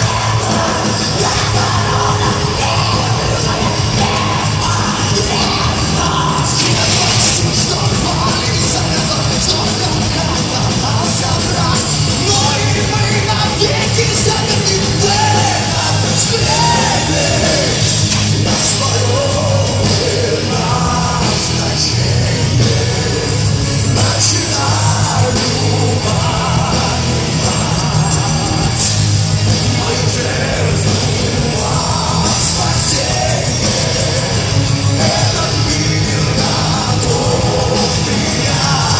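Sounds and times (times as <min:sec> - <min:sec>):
heavy metal band playing: 0:00.0 - 0:38.9
person singing: 0:00.0 - 0:38.9.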